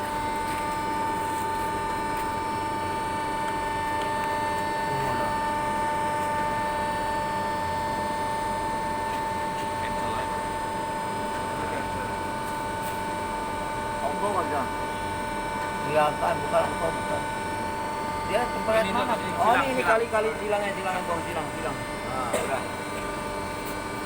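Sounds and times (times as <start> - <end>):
high machine whine: 0.0 - 24.0
roofing sheet machine humming: 0.0 - 24.0.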